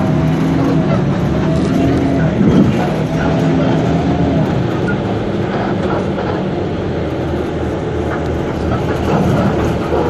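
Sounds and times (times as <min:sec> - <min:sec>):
bus engine drone: 0:00.0 - 0:10.0
road noise: 0:00.0 - 0:10.0.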